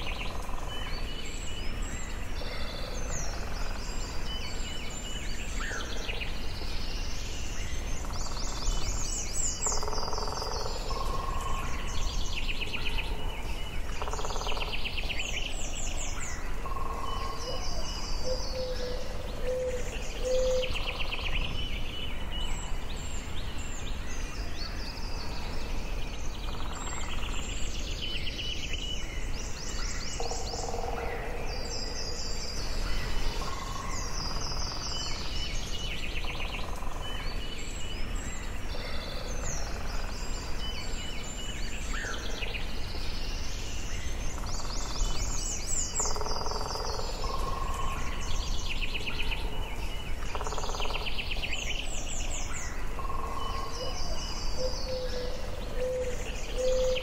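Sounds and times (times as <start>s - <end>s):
birds singing and calling: 0.0s - 57.0s
low background noise: 0.0s - 57.0s.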